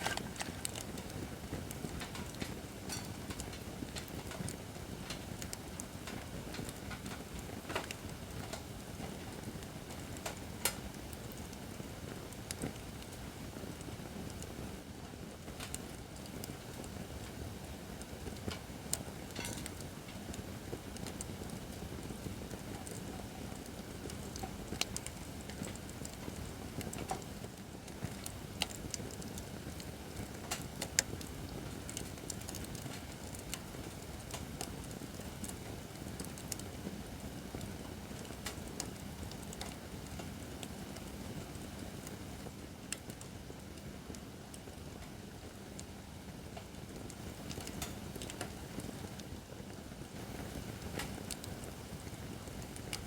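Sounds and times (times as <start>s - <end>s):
campfire burning: 0.0s - 53.0s
fire crackles and pops: 0.0s - 53.0s.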